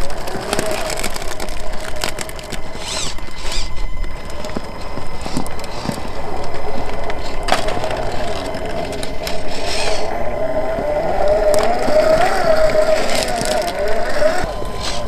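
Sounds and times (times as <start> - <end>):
electric motor whining: 0.0 - 15.0
tyres crunching on stones: 0.0 - 15.0.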